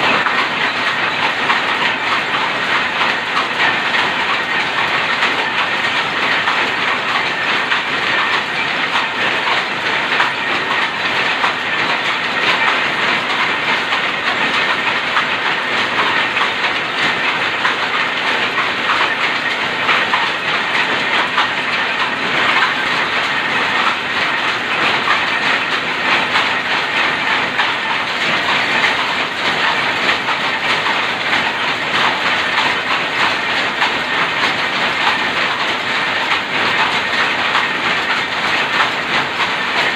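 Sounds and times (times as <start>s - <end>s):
loom clattering: 0.0s - 39.9s.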